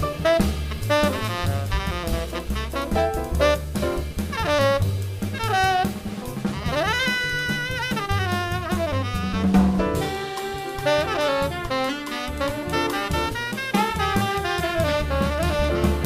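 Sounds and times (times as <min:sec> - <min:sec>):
saxophone line: 0:00.0 - 0:16.0
swinging drum kit with rimshots: 0:00.0 - 0:16.0
walking bass: 0:00.0 - 0:16.0.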